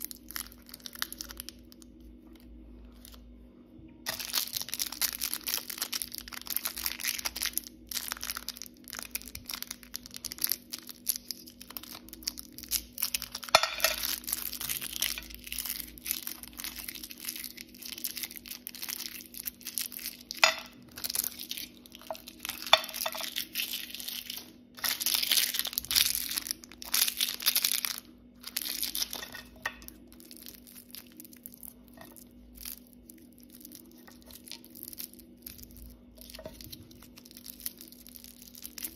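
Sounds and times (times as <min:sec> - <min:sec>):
candy wrappers crinkling: 0:00.0 - 0:03.3, 0:04.1 - 0:38.9
faint steady hum: 0:00.0 - 0:38.9.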